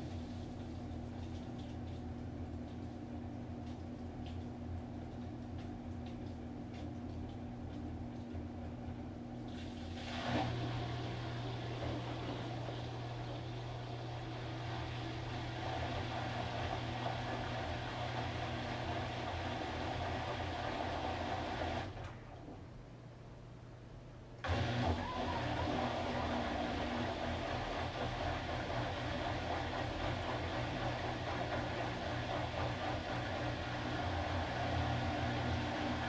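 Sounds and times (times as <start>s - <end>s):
washing machine running: 0.0s - 23.2s, 24.4s - 36.0s.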